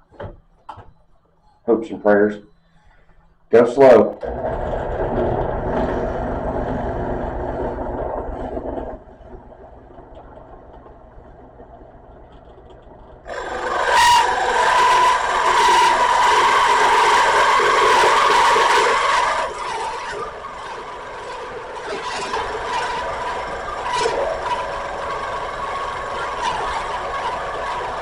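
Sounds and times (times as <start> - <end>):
drill press with hole saw cutting wood: 4.2 - 28.0.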